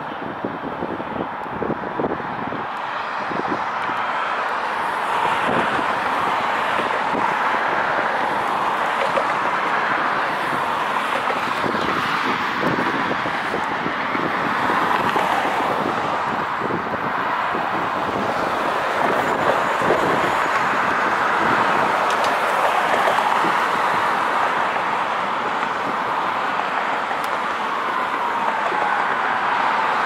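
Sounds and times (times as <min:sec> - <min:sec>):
urban traffic noise: 0:00.0 - 0:30.0.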